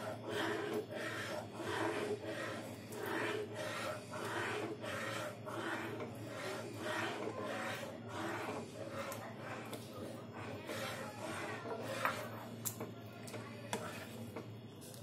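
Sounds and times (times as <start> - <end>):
metal ladle scraping a steel pot: 0.0 - 12.5, 13.7 - 14.2.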